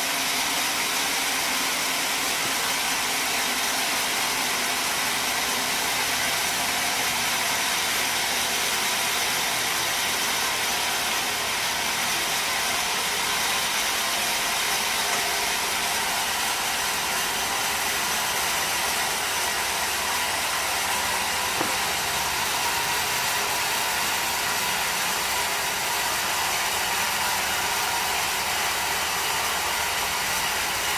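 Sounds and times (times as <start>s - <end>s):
sawmill machinery running: 0.0s - 30.9s.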